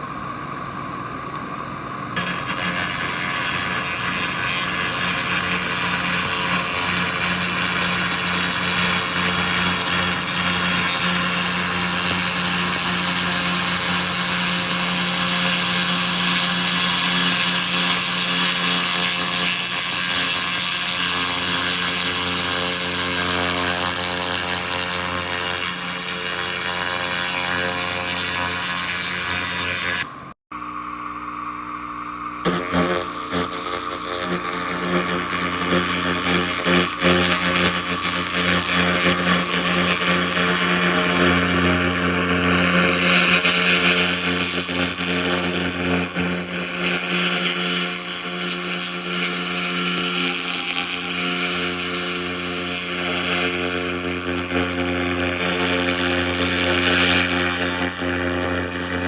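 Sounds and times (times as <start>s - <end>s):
machine hum: 0.0s - 16.3s, 22.1s - 59.0s
laser crackling hiss on metal: 0.0s - 30.3s, 31.1s - 59.0s.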